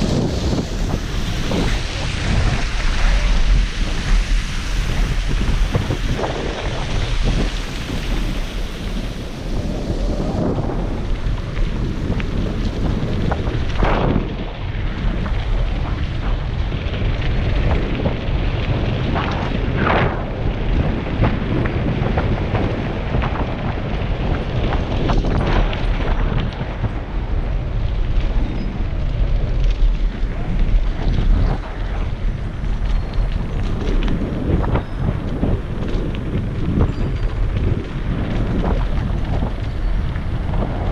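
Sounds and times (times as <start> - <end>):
bike rattling on rough road: 0.0 - 40.9
wind buffeting microphone: 0.0 - 40.9.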